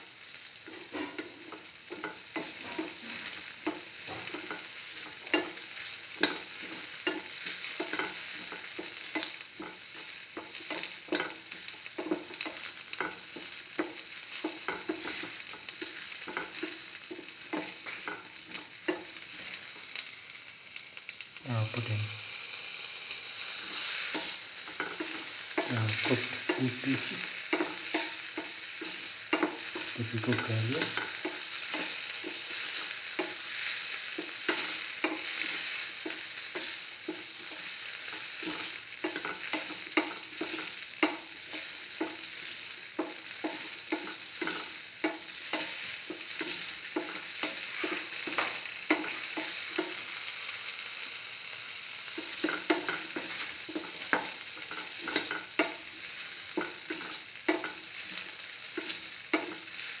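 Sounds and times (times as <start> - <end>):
vegetables sizzling in oil: 0.0 - 60.0.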